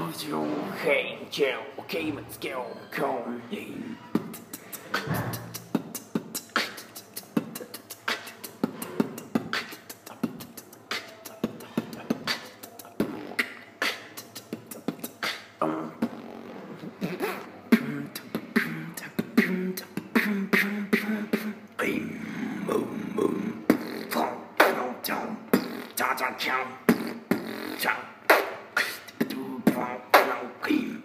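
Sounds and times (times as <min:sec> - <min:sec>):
beatboxing: 0:00.0 - 0:31.0.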